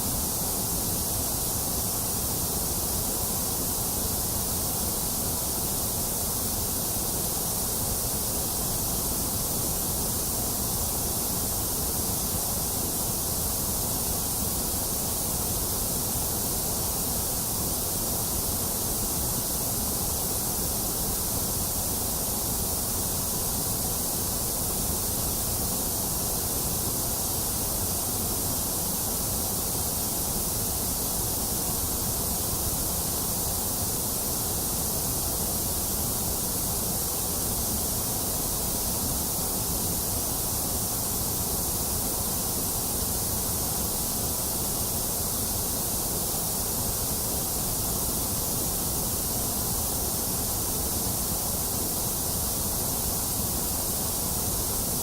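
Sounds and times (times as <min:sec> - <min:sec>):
electronic white noise: 0:00.0 - 0:55.0.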